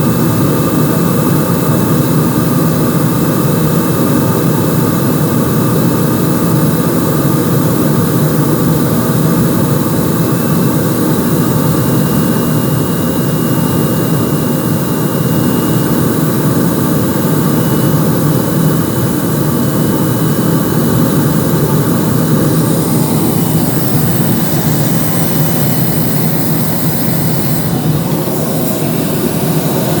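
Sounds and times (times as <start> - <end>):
aircraft engines roaring: 0.0 - 30.0
faint thin whine: 5.6 - 30.0.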